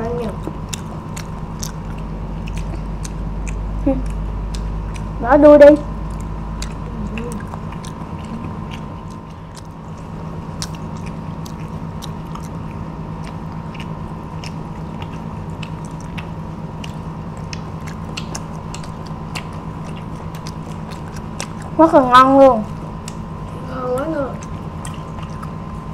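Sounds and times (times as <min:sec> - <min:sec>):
low steady hum: 0:00.0 - 0:25.9
chewing crispy food: 0:00.2 - 0:25.9.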